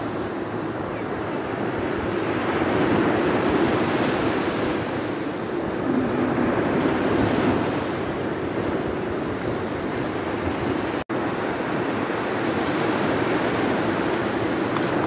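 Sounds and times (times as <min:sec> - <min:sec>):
surf washing on sandy beach: 0:00.0 - 0:15.0
wind on microphone: 0:00.0 - 0:15.0.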